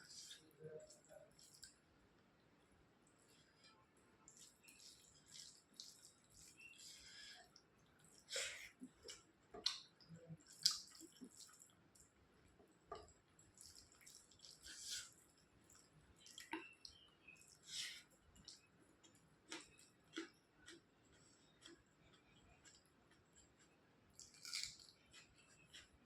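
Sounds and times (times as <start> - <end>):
wet chewing and lip smacks: 4.3 - 12.2, 12.9 - 26.0.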